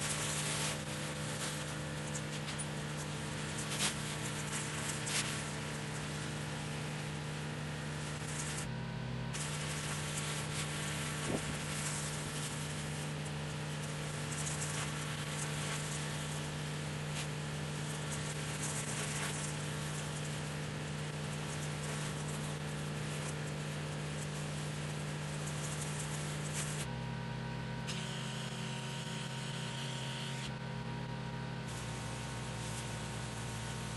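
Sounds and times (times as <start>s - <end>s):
high-pressure water spray hiss: 0.0s - 8.7s, 9.4s - 26.9s, 31.7s - 33.9s
pressure washer pump drone: 0.0s - 33.9s.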